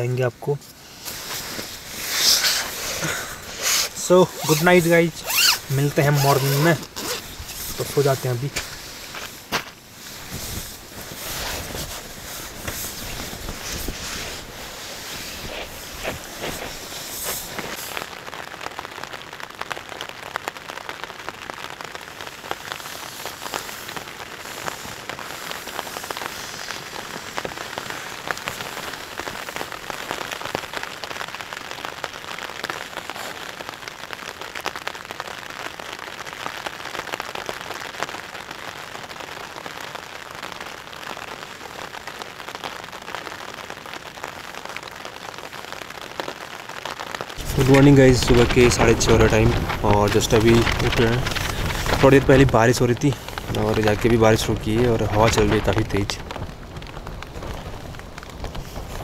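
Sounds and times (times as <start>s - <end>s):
rain on tent fabric: 0.0s - 59.0s.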